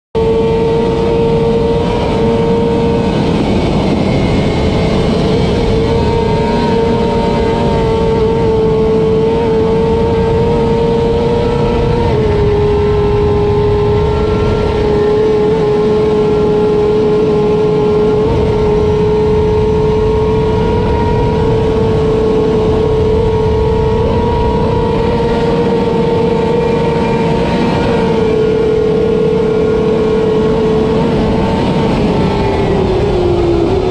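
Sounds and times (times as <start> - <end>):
motorcycle engine running hard: 0.2 - 33.9.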